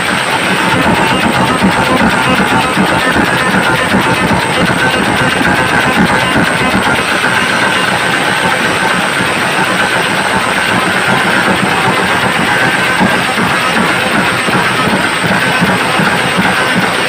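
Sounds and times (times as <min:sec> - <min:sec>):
heavily distorted loudspeaker noise: 0:00.0 - 0:17.0.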